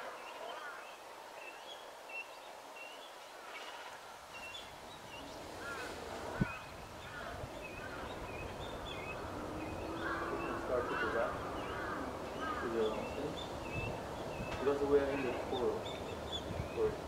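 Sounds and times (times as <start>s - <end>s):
bird chicks calling: 0.0s - 17.0s.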